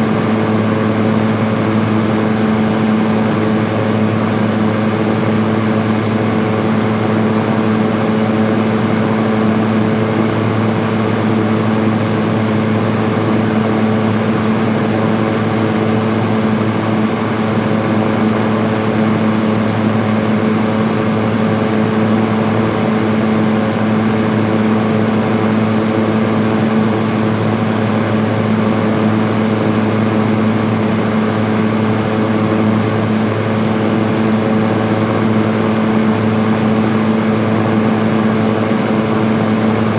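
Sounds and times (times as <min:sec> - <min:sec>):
electric fan air rushing: 0:00.0 - 0:39.9
fan motor hum: 0:00.0 - 0:39.9.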